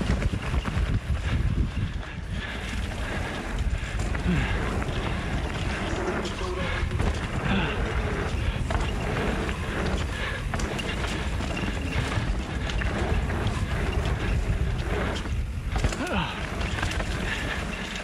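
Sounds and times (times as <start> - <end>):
bike rattling and knocking: 0.0 - 18.0
tyres rolling on dirt: 0.0 - 18.0
wind rushing over microphone: 0.0 - 18.0.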